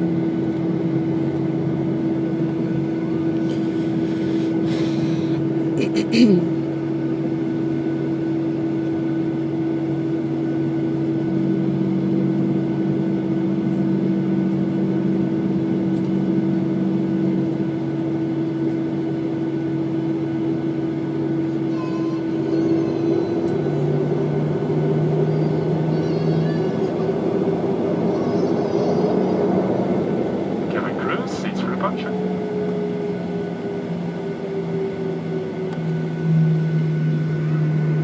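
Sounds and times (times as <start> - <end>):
jet engines droning in cabin: 0.0 - 38.0.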